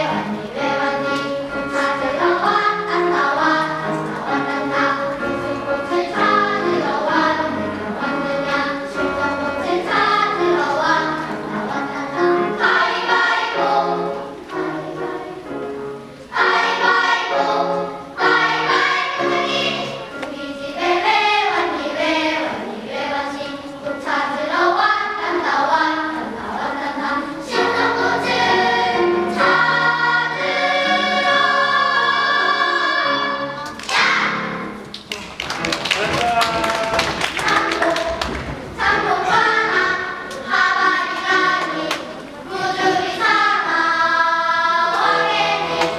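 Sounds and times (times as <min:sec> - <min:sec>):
children's choir singing: 0:00.0 - 0:45.9.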